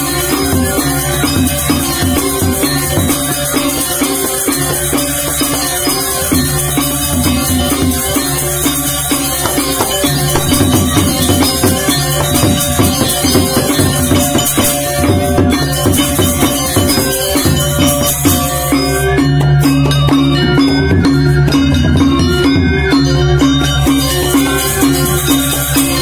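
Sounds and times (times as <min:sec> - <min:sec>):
high metallic jingle: 0:00.0 - 0:26.0
metallophones interlocking pattern: 0:00.0 - 0:26.0.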